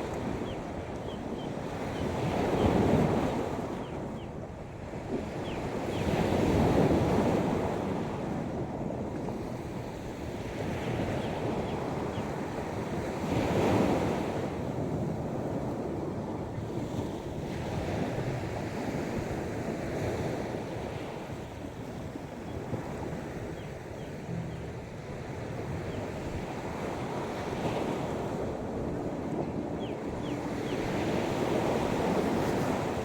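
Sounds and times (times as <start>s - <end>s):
wind buffeting microphone: 0.0s - 33.0s
sea waves washing onto beach: 5.8s - 33.0s.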